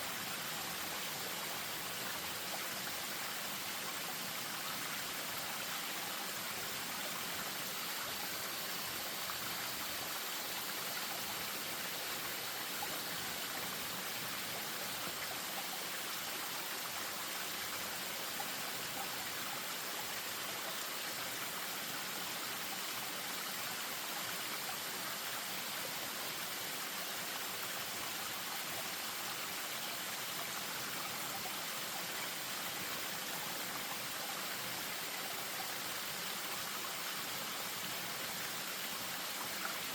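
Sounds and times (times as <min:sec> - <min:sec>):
stream over small waterfall: 0:00.0 - 0:39.9.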